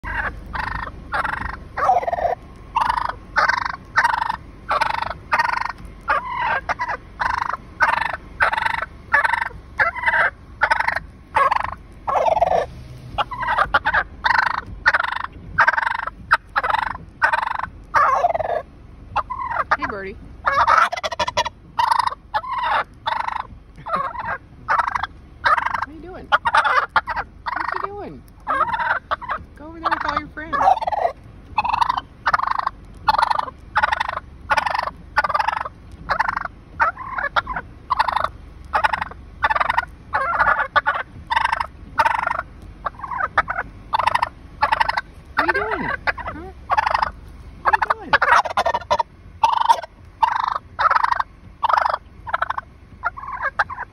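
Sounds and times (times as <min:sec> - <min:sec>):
turkey gobbling: 0:00.0 - 0:53.9.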